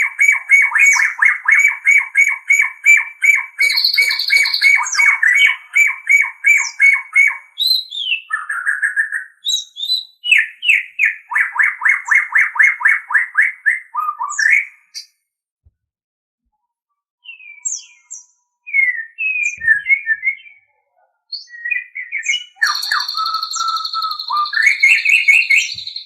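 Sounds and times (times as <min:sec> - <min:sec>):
bird singing whistled notes: 0:00.0 - 0:15.1, 0:17.2 - 0:26.0.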